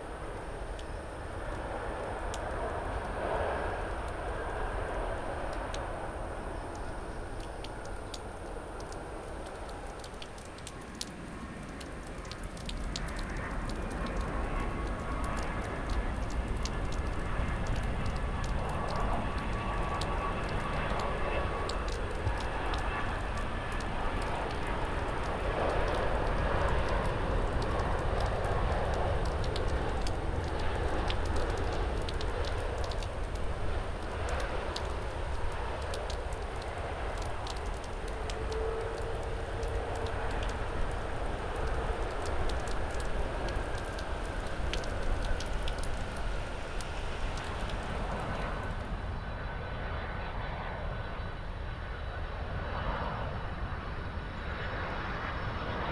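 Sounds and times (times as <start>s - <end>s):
heavy rain hiss: 0.0s - 49.1s
jet engines rumbling: 0.0s - 55.9s.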